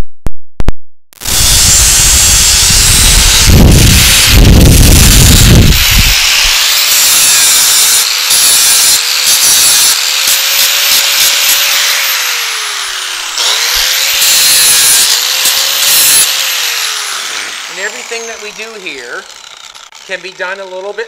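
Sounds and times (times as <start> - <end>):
grinder sanding steel: 1.2 - 21.0.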